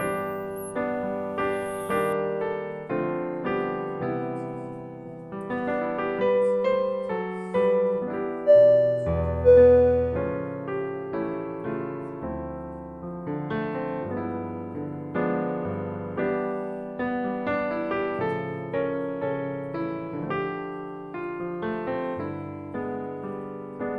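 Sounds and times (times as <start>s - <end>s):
slow gentle piano music: 0.0s - 23.9s.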